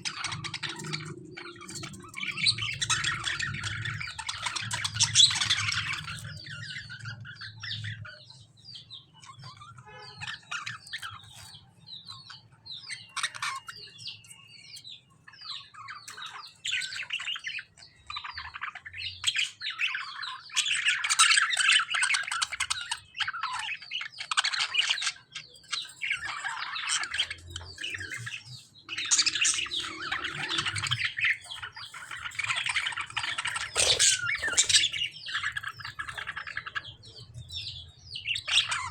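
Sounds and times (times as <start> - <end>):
birds chattering and squabbling: 0.0 - 38.9.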